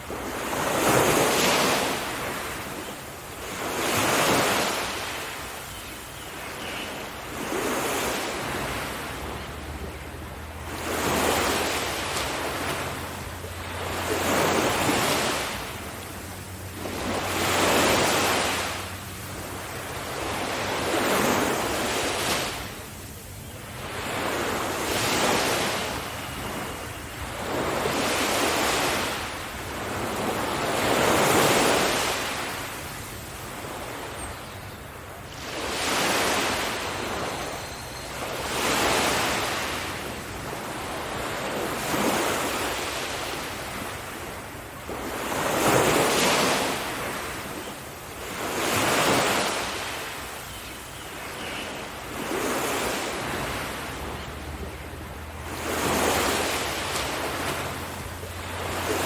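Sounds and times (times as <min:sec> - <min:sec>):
waves breaking on a beach: 0:00.0 - 0:59.0
wind: 0:00.0 - 0:59.0.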